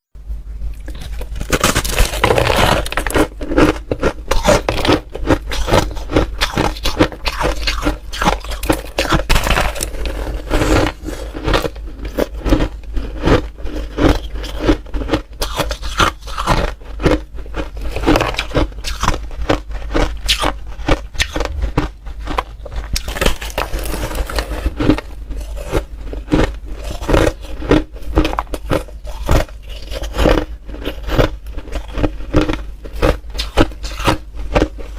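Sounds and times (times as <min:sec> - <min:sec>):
ice being chewed: 0:00.7 - 0:34.9.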